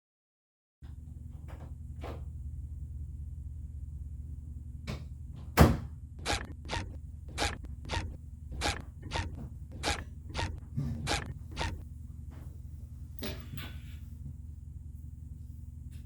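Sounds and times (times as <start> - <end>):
low steady hum: 0.8 - 16.0.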